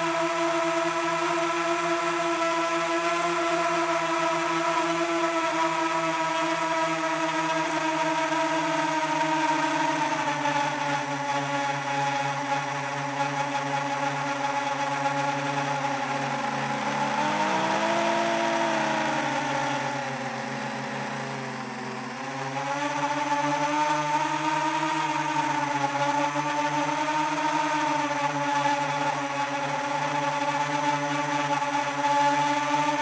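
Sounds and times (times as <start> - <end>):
quadcopter propellers whirring: 0.0 - 33.0.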